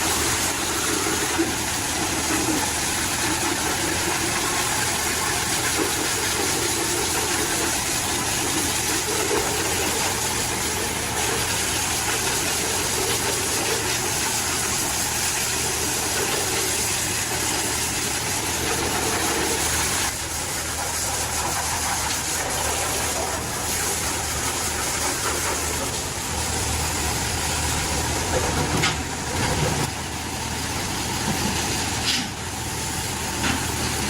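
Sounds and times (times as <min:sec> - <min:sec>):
machine humming and hissing: 0:00.0 - 0:34.0.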